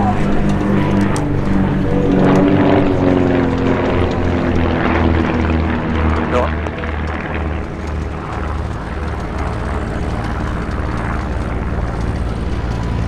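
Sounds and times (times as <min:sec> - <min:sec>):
propeller aircraft droning overhead: 0:00.0 - 0:13.0.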